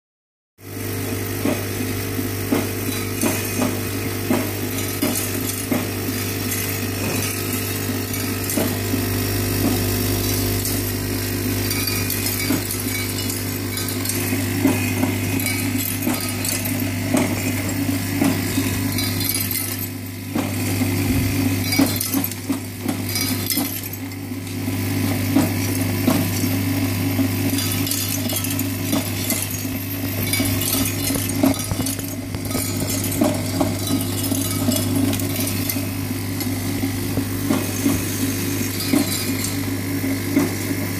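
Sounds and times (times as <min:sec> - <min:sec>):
vibratory bowl feeder humming: 0:00.6 - 0:40.9
metal components rattling and clinking: 0:02.4 - 0:40.9.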